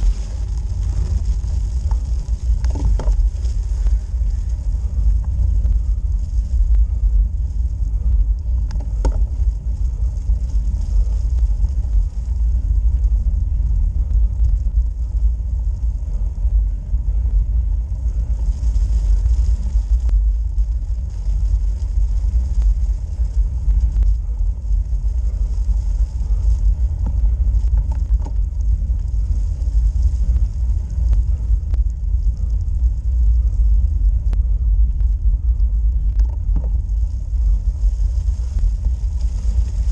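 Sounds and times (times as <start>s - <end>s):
light ticks: 0.0s - 37.2s
faint hiss: 0.0s - 39.9s
tyre and road rumble: 0.0s - 39.9s
wind buffeting on camera: 0.0s - 39.9s.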